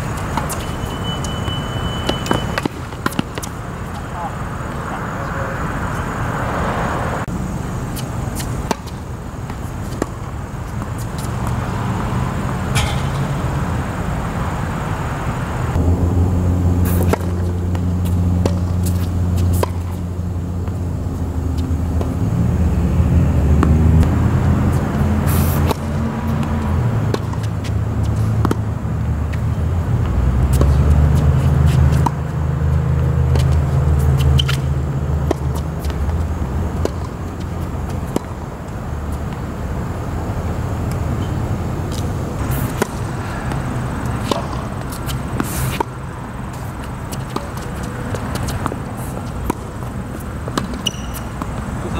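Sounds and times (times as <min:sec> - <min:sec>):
tennis balls struck by rackets: 0:00.0 - 0:05.0, 0:07.9 - 0:14.0, 0:15.7 - 0:22.4, 0:23.5 - 0:28.7, 0:30.0 - 0:39.6, 0:40.8 - 0:51.9
motor vehicle engine droning: 0:10.2 - 0:51.9.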